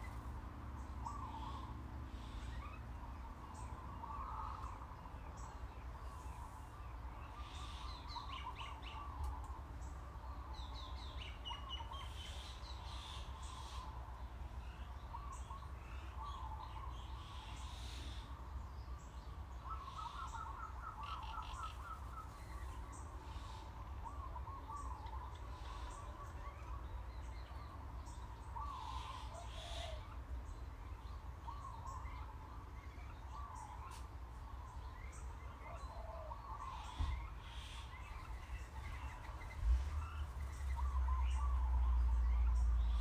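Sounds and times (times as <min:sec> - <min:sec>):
songbirds chirping and singing: 0:00.0 - 0:43.0.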